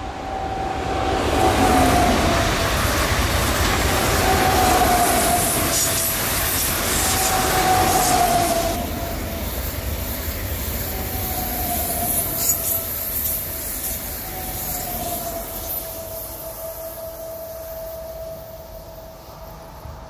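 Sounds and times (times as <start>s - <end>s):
high whine: 0.0s - 20.0s
train rolling rumble: 0.0s - 20.0s.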